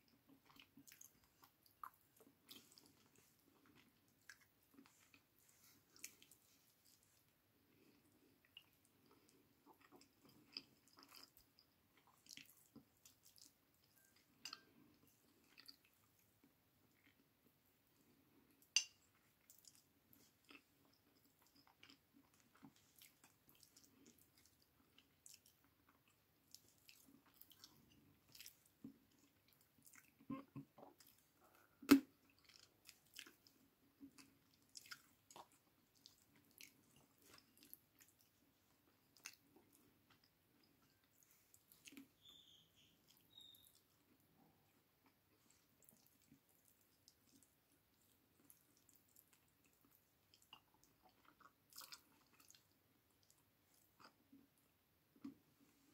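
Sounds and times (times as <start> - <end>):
quiet chewing with wet smacks: 0.0 - 55.9.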